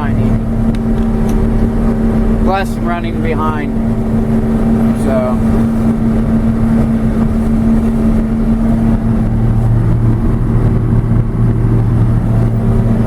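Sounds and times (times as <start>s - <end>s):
combine engine and machinery drone: 0.0s - 13.0s
low hum: 0.0s - 13.0s.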